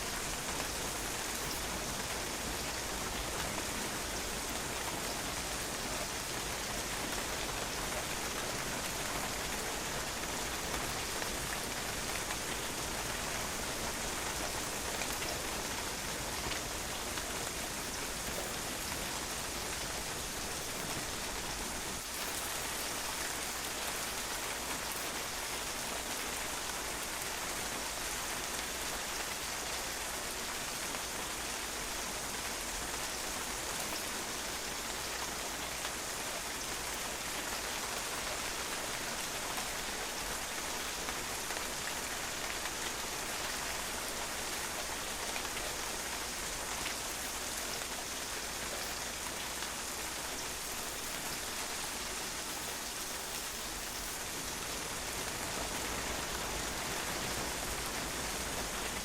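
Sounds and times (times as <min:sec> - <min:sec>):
rain pattering on a patio: 0:00.0 - 0:59.0.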